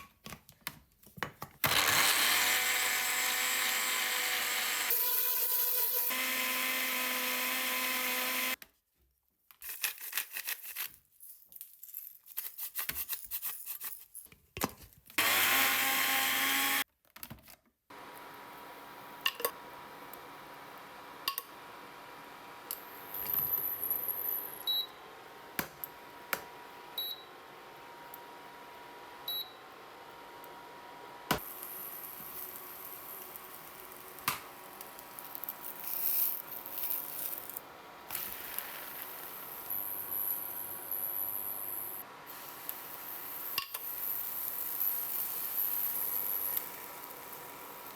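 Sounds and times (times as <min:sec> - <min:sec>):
electric blender running: 0:01.6 - 0:08.6, 0:15.2 - 0:16.8, 0:17.9 - 0:47.9.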